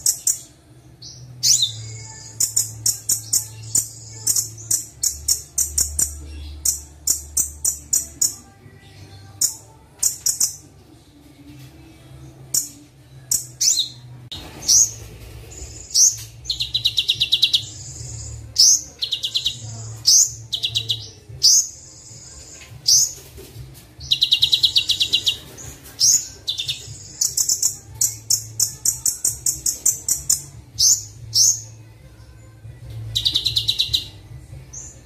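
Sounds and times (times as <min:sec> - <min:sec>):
bird chirps and trills: 0:00.0 - 0:10.7, 0:12.4 - 0:23.3, 0:24.0 - 0:31.9, 0:33.0 - 0:35.0.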